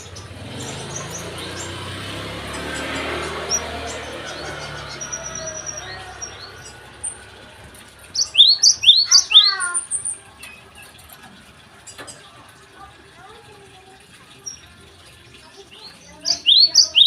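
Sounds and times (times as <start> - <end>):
songbird chirping: 0.0 - 12.4, 14.1 - 17.0.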